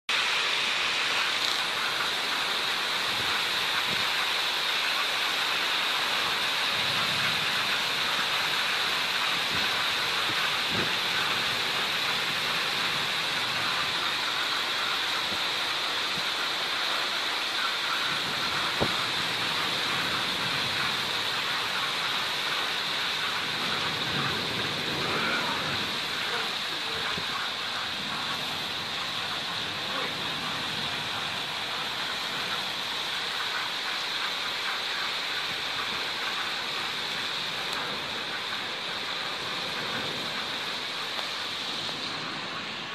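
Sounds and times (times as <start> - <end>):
heavy rain pouring: 0.1 - 42.9.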